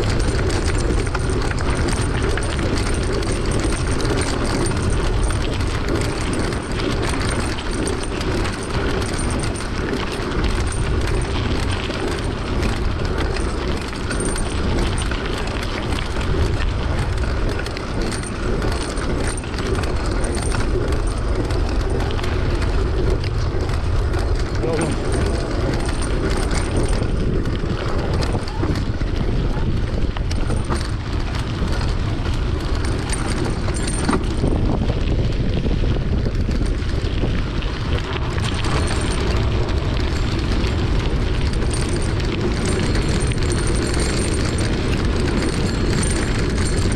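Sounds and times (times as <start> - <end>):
bike rattling on dirt track: 0.0 - 46.9
wind buffeting microphone: 0.0 - 46.9.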